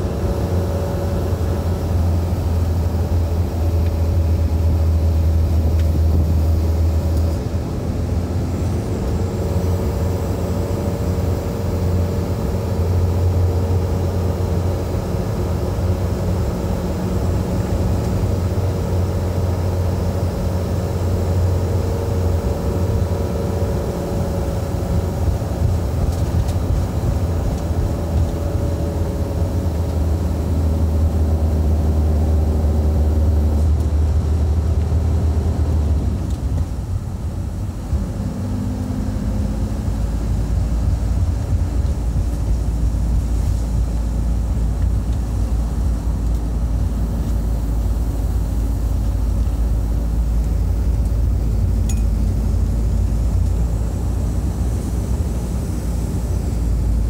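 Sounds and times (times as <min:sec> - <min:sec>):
vehicle interior road noise: 0:00.0 - 0:57.0.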